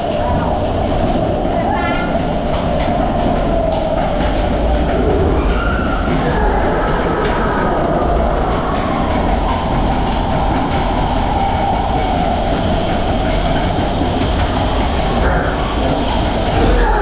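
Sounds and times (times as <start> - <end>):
roller coaster wheels rumbling: 0.0 - 17.0.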